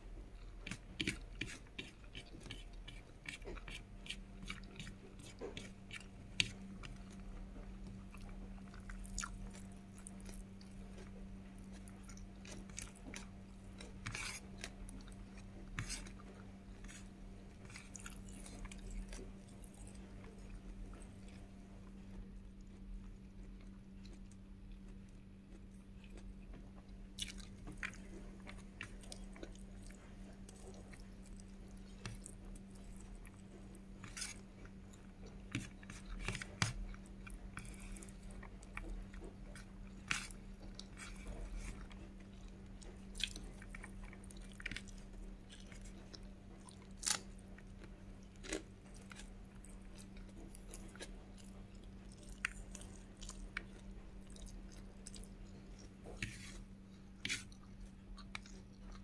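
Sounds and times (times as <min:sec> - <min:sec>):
steady low hum: 0:00.0 - 0:59.0
chewing food: 0:00.2 - 0:59.0.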